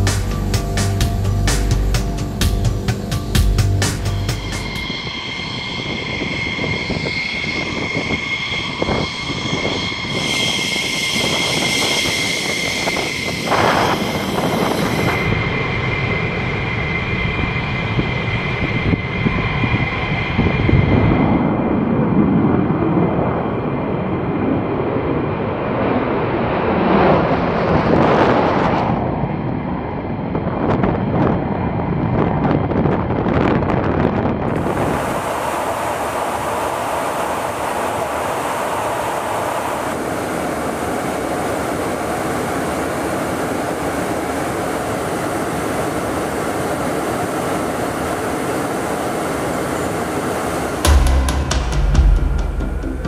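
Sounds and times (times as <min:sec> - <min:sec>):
airflow rushing inside aircraft: 0:00.0 - 0:53.0
jet engines at high power: 0:00.0 - 0:53.0.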